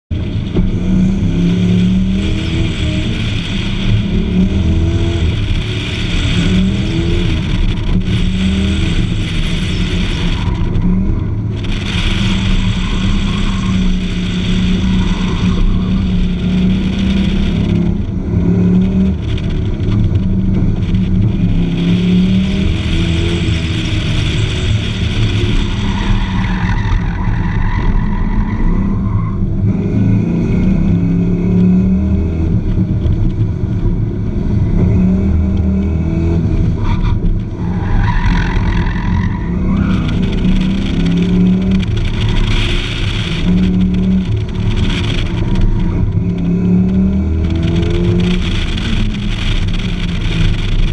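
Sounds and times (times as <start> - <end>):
road and wind noise: 0.0 - 50.9
car engine revving: 0.1 - 50.9.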